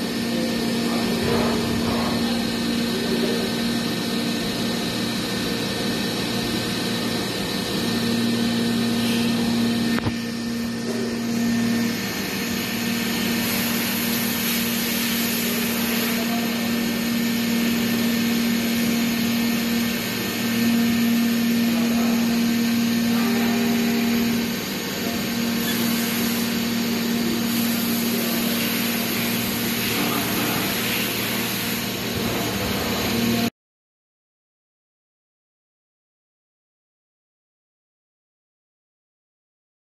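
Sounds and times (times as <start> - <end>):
machine hum: 0.0 - 33.5.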